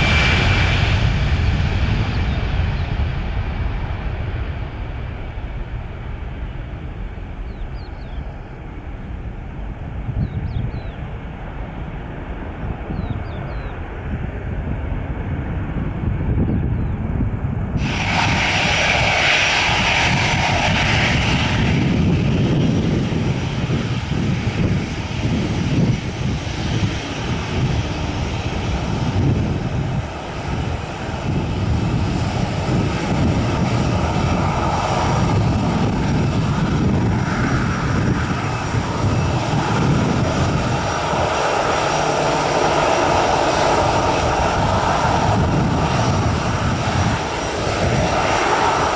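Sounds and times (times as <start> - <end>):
jet airliner climbing: 0.0 - 48.9
jet engines whining while taxiing: 0.0 - 48.9.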